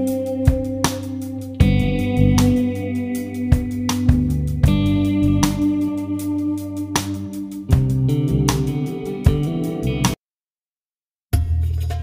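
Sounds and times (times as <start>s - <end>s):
guitar music with steady beat: 0.0s - 10.2s.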